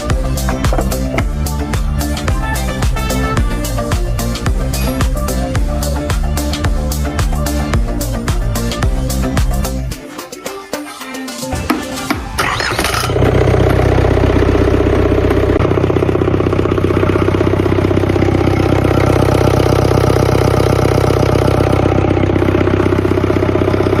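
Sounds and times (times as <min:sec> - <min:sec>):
diesel engine starting and idling: 0:00.0 - 0:09.8, 0:11.9 - 0:24.0.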